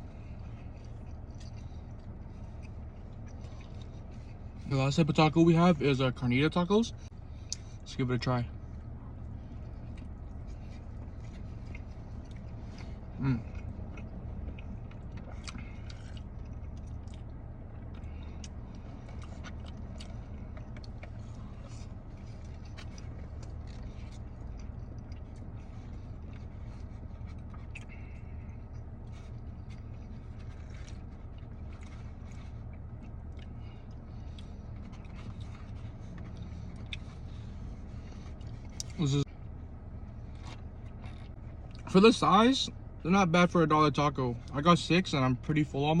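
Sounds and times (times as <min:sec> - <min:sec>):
person chewing food: 0:00.0 - 0:04.7, 0:07.1 - 0:07.8, 0:08.7 - 0:41.9.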